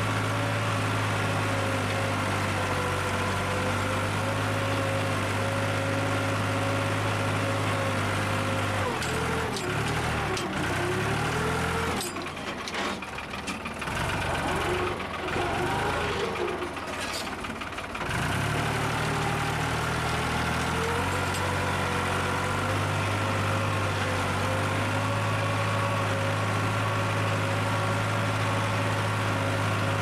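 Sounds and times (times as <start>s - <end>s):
tractor diesel engine droning: 0.0s - 30.0s.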